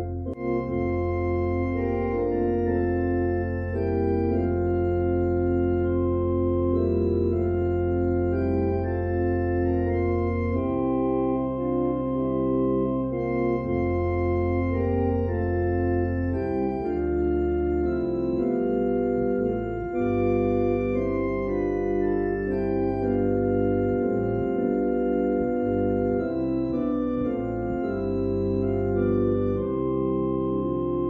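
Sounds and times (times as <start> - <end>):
organ playing sustained chords: 0.0 - 31.0.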